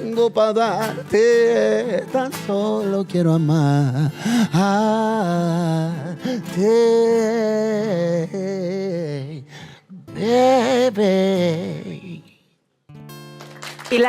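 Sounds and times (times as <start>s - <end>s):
man singing: 0.0s - 12.6s.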